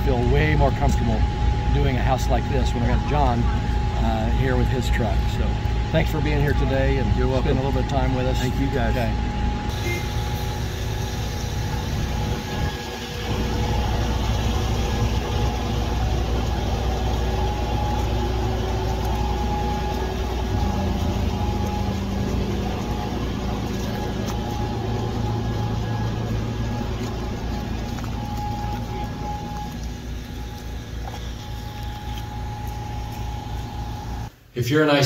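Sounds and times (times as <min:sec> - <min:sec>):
heavy engine rumbling: 0:00.0 - 0:34.3
steady tone: 0:00.0 - 0:34.3.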